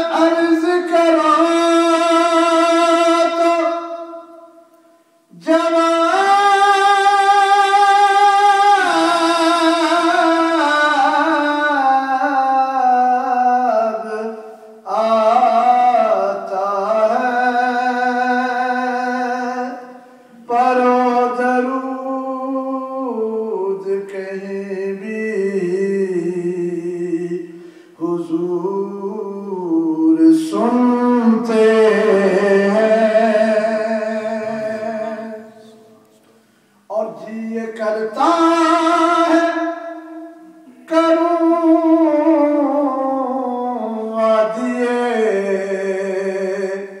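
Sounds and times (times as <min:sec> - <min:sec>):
man singing unaccompanied: 0:00.0 - 0:36.1, 0:36.8 - 0:47.0.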